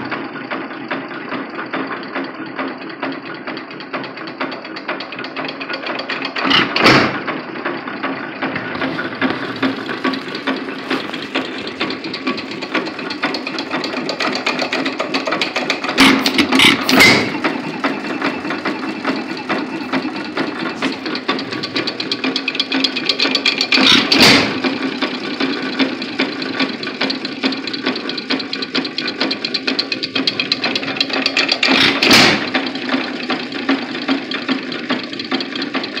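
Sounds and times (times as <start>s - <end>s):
engine bangs: 0.0s - 36.0s
stationary gas engine running: 0.0s - 36.0s.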